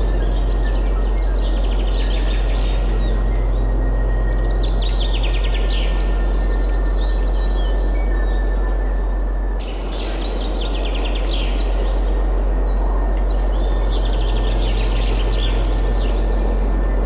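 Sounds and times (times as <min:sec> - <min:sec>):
songbirds twittering: 0:00.0 - 0:17.0
wind rush with low rumble: 0:00.0 - 0:17.0.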